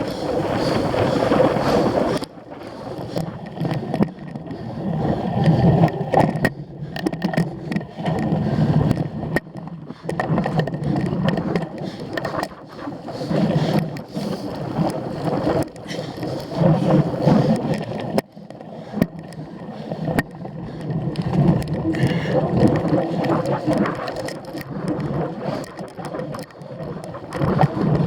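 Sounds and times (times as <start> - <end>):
bike rattling and knocking: 0.0 - 19.3, 19.9 - 28.0
wind rushing over microphone: 0.0 - 28.0.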